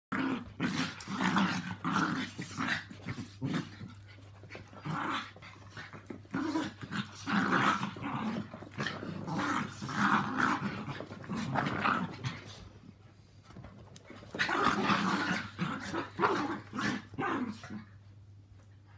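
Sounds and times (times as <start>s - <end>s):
small dogs growling: 0.1s - 12.7s, 14.3s - 18.0s.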